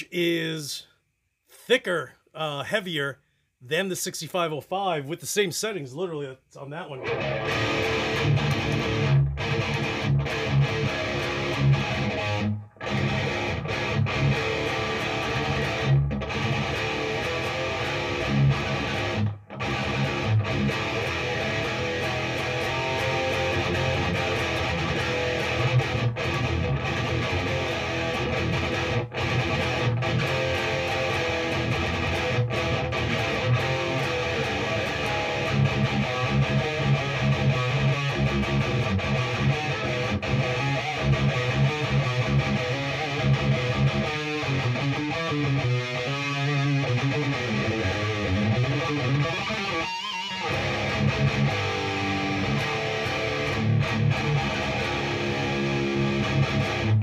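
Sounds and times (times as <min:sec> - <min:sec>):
distorted electric guitar riffing: 0:06.7 - 0:57.0.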